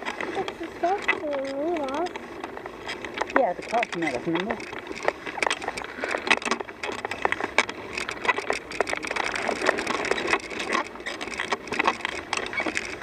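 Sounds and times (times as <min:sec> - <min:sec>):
bicycle rattling clicks: 0:00.0 - 0:13.0
bicycle tyres crunching gravel: 0:00.0 - 0:13.0.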